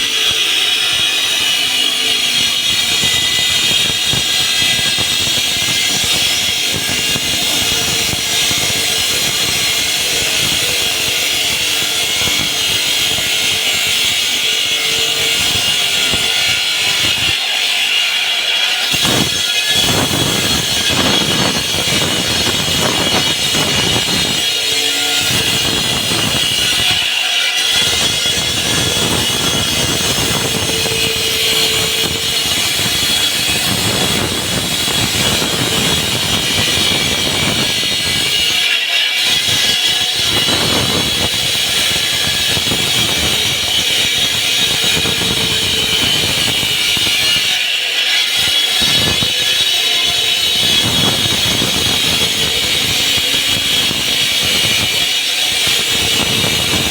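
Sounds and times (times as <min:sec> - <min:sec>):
concrete saw cutting: 0:00.0 - 0:56.9.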